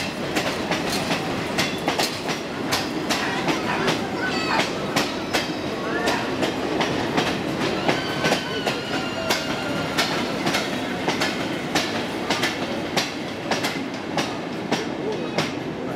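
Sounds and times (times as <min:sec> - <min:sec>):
train wheels clicking on rail joints: 0:00.0 - 0:15.8
train rumble: 0:00.0 - 0:15.9.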